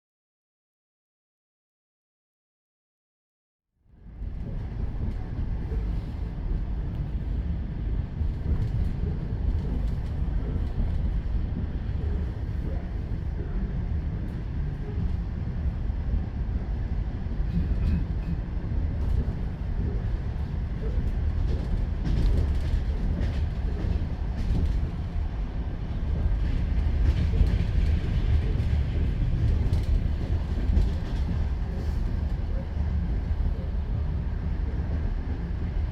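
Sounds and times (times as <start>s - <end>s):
train wheels rumbling on rails: 4.0s - 35.9s.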